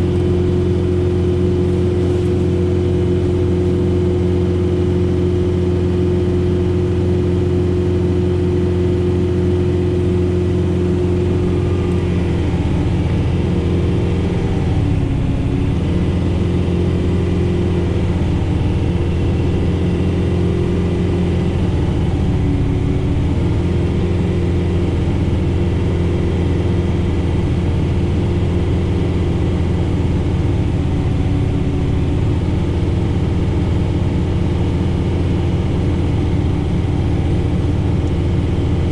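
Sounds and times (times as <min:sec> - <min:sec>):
snowblower through wet snow: 0:00.0 - 0:38.9
tractor diesel engine running: 0:00.0 - 0:38.9.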